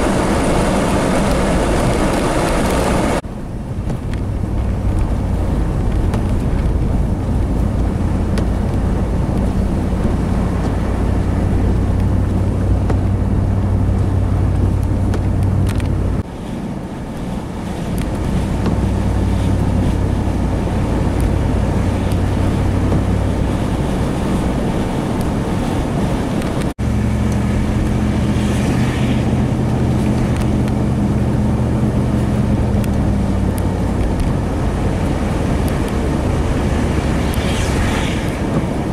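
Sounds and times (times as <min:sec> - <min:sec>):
road and wind noise: 0:00.0 - 0:38.9
vehicle engine hum from inside: 0:00.0 - 0:38.9.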